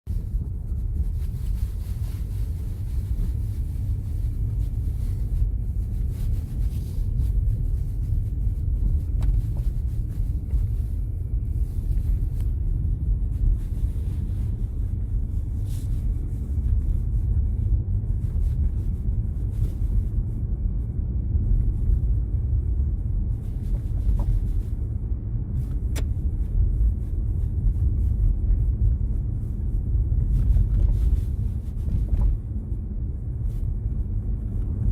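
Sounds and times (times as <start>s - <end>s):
car road rumble: 0.0s - 34.9s.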